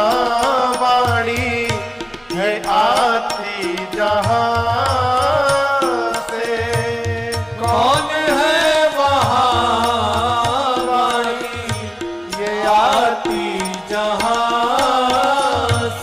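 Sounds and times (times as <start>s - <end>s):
devotional song melody: 0.0s - 16.0s.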